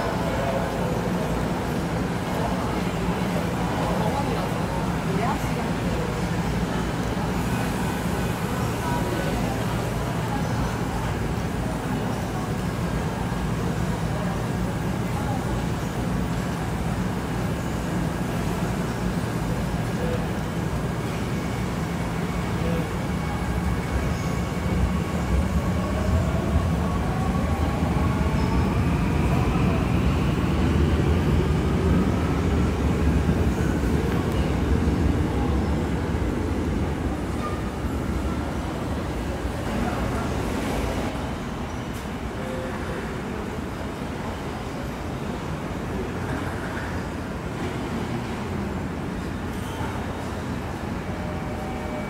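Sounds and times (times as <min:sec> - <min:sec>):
train rumble: 0:00.0 - 0:52.0.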